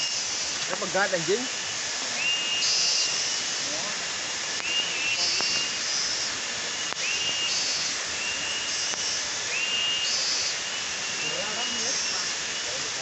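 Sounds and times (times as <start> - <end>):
insect chorus hiss: 0.0 - 13.0.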